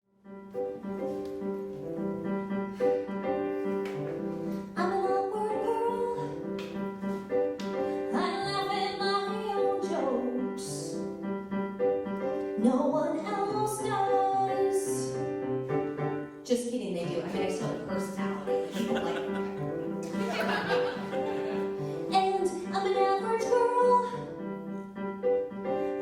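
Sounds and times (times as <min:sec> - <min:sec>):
piano chords: 0:00.1 - 0:26.0.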